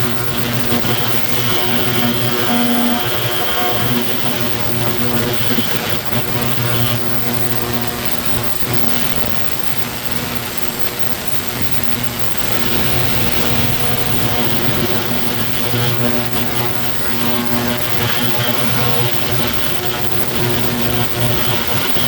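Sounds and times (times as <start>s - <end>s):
loud mechanical hum: 0.0s - 22.0s.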